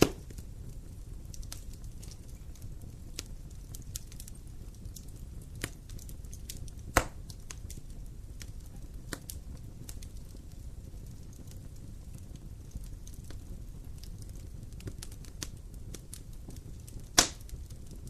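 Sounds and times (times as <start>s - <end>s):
campfire crackling and popping: 0.0s - 18.0s
low rumble of fire: 0.0s - 18.0s.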